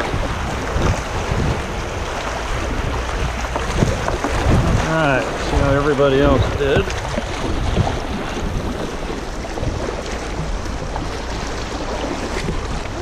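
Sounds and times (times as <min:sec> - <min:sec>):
choppy river water rushing: 0:00.0 - 0:13.0.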